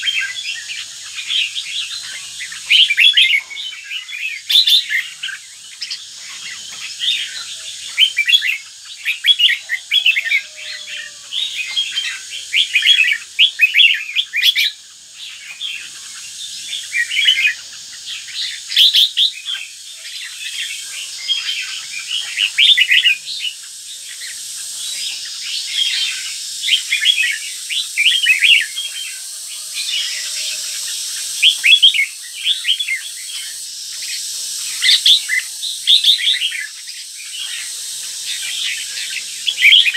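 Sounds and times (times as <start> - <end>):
bulbul singing chirps: 0.0 - 39.9.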